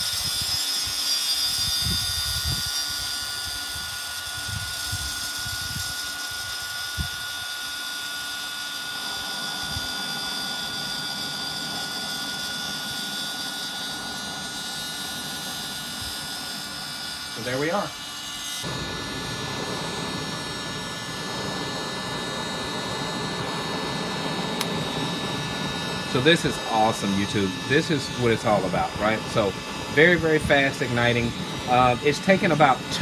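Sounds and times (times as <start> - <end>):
electric fire starter blowing air: 0.0 - 33.0.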